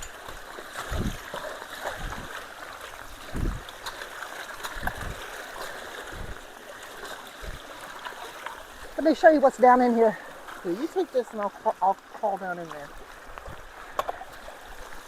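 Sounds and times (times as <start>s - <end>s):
water rushing and gurgling: 0.0s - 15.0s.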